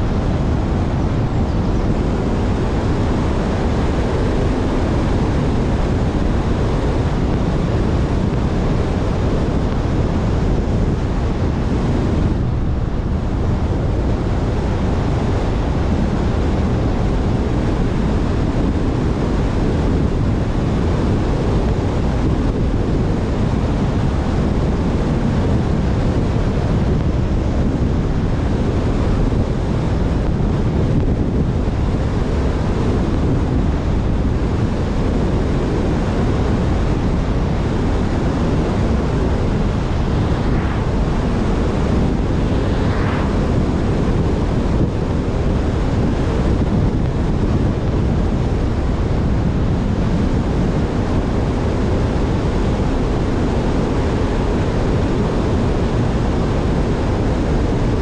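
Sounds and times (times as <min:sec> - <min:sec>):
car wind and road noise: 0:00.0 - 0:58.0.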